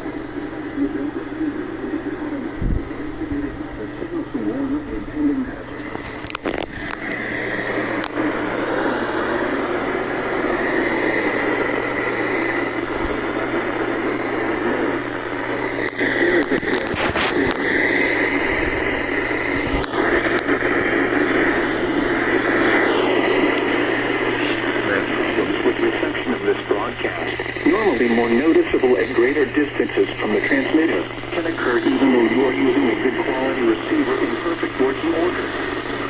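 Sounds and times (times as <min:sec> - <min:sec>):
radio static hiss: 0:00.0 - 0:36.0
sharp static crackles: 0:05.7 - 0:36.0.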